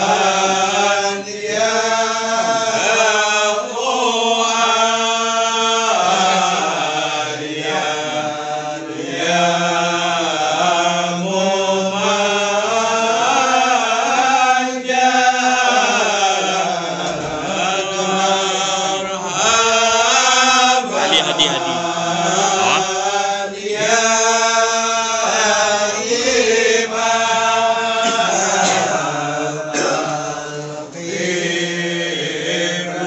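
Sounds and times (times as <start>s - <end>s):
men chanting in unison: 0.0s - 33.0s.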